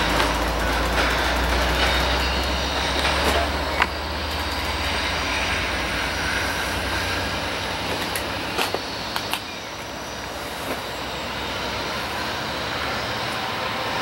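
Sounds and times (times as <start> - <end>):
wheels clicking over rail joints: 0.0 - 13.6
diesel engine hum: 0.0 - 14.0
train wheels on rails: 0.0 - 14.0.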